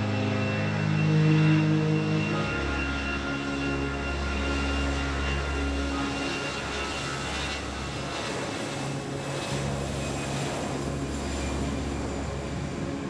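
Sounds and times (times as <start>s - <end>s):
distant jet engines droning: 0.0s - 13.0s.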